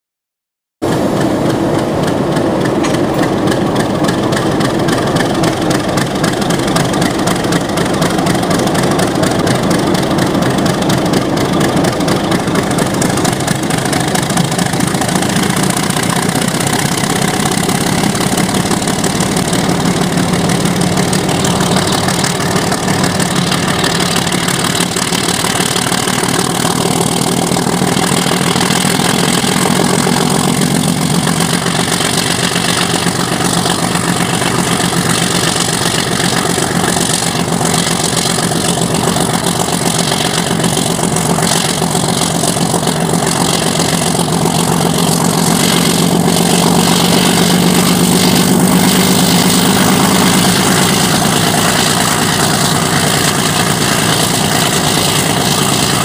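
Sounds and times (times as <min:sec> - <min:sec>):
diesel locomotive engine running: 0:00.8 - 0:56.0.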